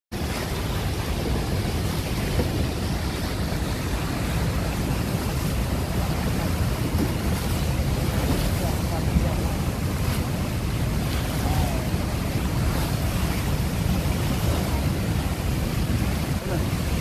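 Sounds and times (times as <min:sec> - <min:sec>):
waterfall roaring: 0:00.2 - 0:17.0.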